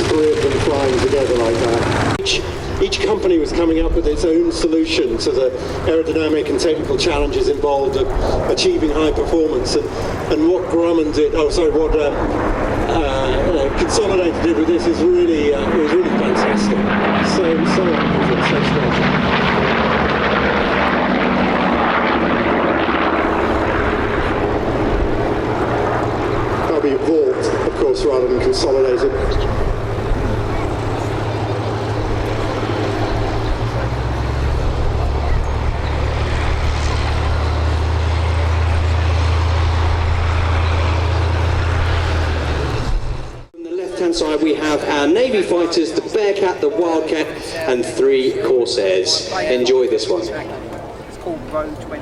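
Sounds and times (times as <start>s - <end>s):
propeller aircraft flying past: 0.0s - 52.0s.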